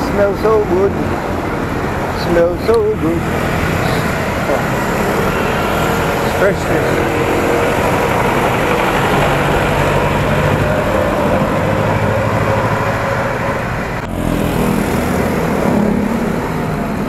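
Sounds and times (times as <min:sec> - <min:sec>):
diesel engine overtaking: 0:00.0 - 0:17.0
steady traffic noise: 0:00.0 - 0:17.0.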